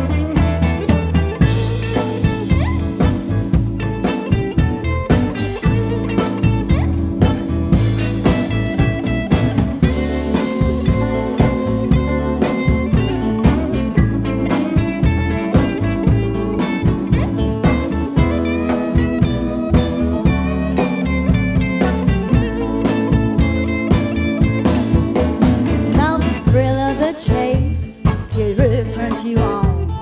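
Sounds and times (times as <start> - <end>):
bass guitar: 0.0 - 30.0
lead guitar bending notes: 0.0 - 30.0
steady drum beat: 0.0 - 30.0.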